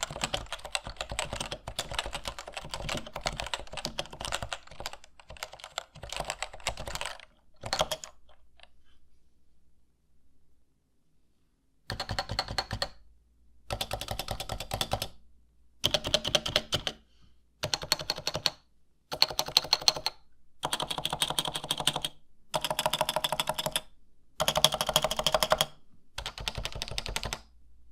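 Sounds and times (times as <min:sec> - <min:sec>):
keyboard typing: 0:00.0 - 0:08.8, 0:11.9 - 0:13.0, 0:13.7 - 0:15.2, 0:15.8 - 0:17.0, 0:17.6 - 0:27.5.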